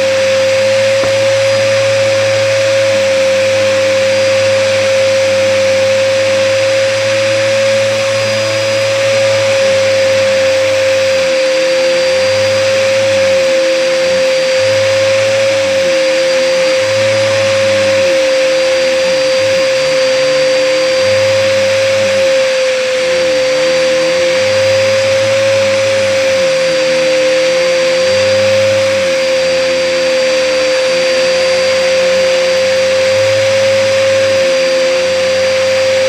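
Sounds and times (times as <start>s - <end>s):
vacuum cleaner high whine: 0.0s - 36.0s.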